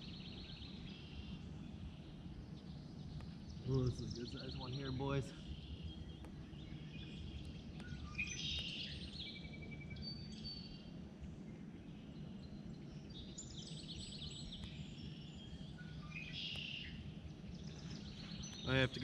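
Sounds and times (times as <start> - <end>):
low outdoor background rumble: 0.0 - 19.0
songbirds singing: 0.0 - 19.0.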